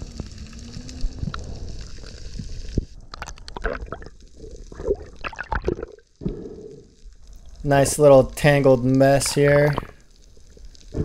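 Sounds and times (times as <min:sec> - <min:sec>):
water gurgling and sloshing: 0:00.0 - 0:11.0.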